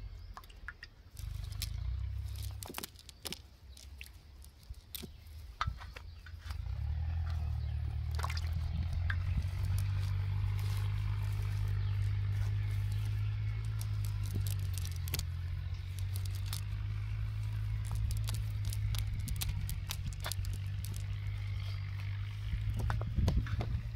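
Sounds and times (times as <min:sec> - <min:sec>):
steady low rumble: 0:00.0 - 0:23.9
net and wet weeds rustling: 0:01.1 - 0:05.6, 0:07.4 - 0:22.9.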